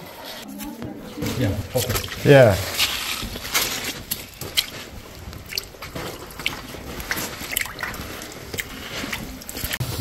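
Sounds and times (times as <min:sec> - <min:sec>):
feet wading through water: 0:01.6 - 0:09.8.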